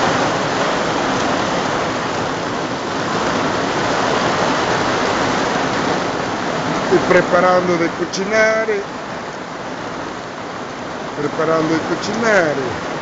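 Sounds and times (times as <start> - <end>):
rain on a tent: 0.0 - 13.0.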